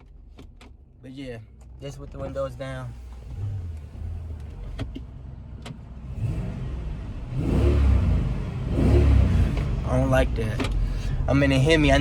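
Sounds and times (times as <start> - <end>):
car engine accelerating: 1.9 - 12.0.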